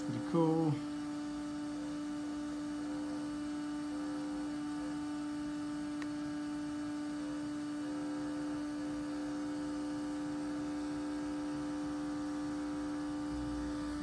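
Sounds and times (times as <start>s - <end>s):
cooling fan humming: 0.0s - 14.0s.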